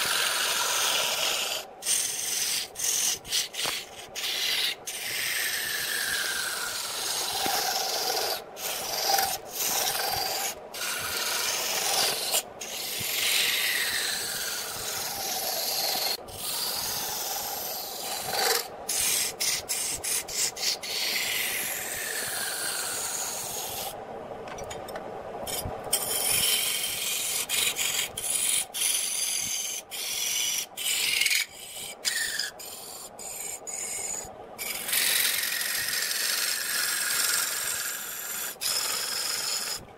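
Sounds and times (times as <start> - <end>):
gouge scraping wood on lathe: 0.0 - 23.9, 25.5 - 39.8.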